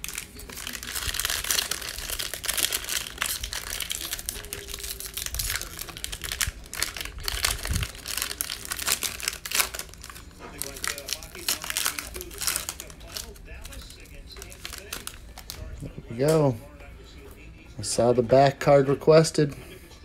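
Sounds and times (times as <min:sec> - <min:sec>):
foil wrapper crinkling: 0:00.0 - 0:16.6.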